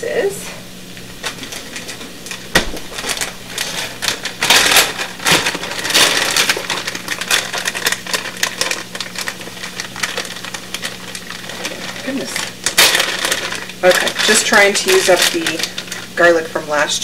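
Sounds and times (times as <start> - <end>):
plastic bag crinkling and rustling: 0.7 - 16.6.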